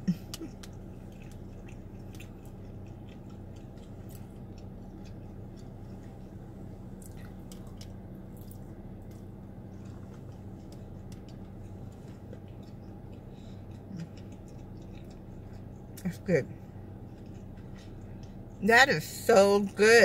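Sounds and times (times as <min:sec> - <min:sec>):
chewing noodles: 0:00.0 - 0:16.0, 0:16.6 - 0:18.6
low steady hum: 0:00.0 - 0:20.0.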